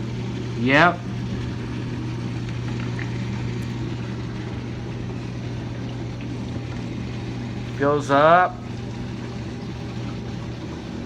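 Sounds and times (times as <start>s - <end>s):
dishwasher electrical hum: 0.0s - 11.0s.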